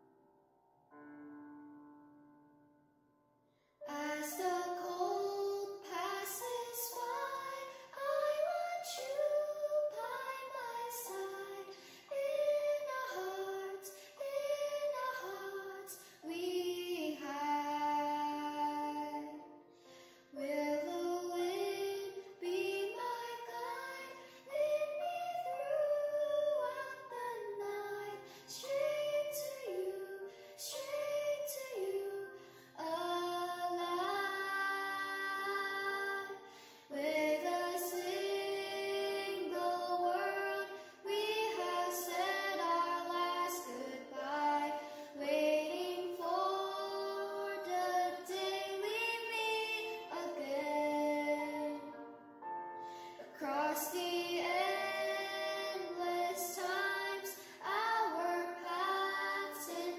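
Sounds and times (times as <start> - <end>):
woman singing slow melody: 3.9 - 19.5, 20.3 - 52.1, 53.1 - 59.9.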